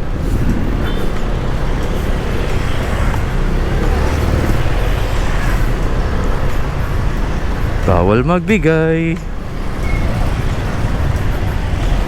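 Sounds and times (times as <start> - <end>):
road and traffic noise: 0.0 - 12.0
scooter engine: 0.0 - 12.0.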